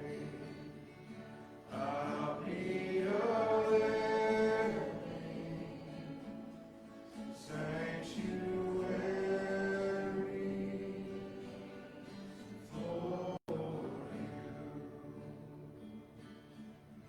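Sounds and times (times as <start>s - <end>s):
congregation singing: 0.0s - 17.0s.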